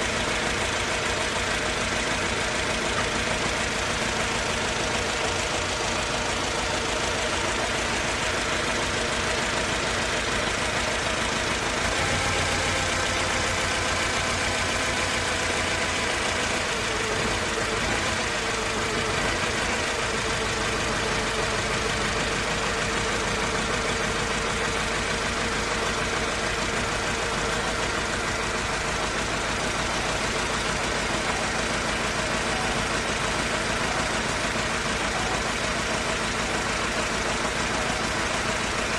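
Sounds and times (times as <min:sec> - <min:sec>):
car engine rough idling: 0:00.0 - 0:38.9.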